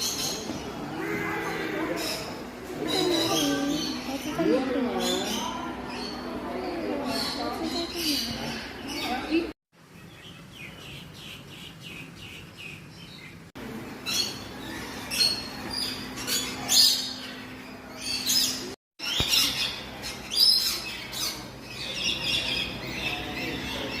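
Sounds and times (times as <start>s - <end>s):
birds chirping and squawking: 0.0s - 24.0s.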